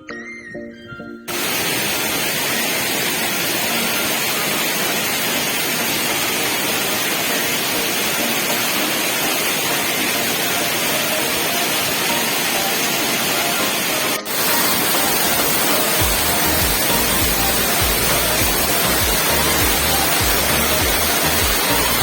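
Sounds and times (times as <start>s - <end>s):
background music: 0.0s - 22.0s
waterfall rushing: 1.3s - 22.0s.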